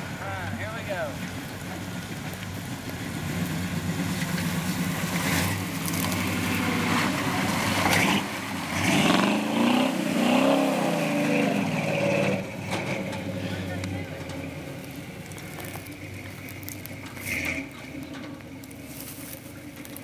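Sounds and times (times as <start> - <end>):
pickup engine under load revving: 0.0 - 20.0.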